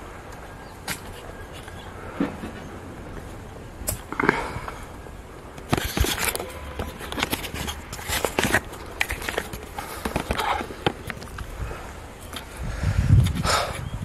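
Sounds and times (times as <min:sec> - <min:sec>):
footsteps on stone steps: 0:00.0 - 0:12.6.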